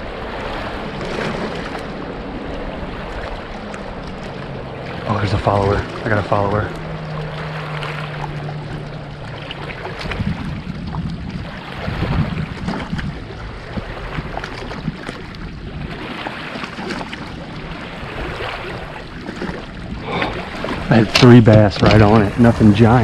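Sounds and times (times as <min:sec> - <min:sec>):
water lapping against kayak hull: 0:00.0 - 0:23.0
wind on microphone: 0:00.0 - 0:23.0.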